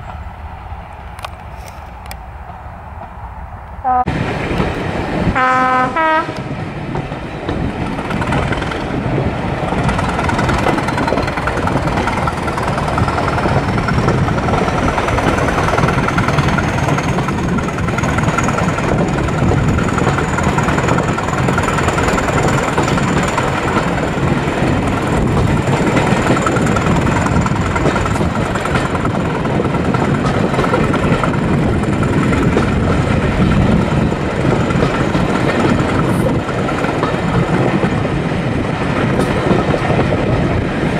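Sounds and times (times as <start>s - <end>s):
diesel train running: 0.0s - 40.9s.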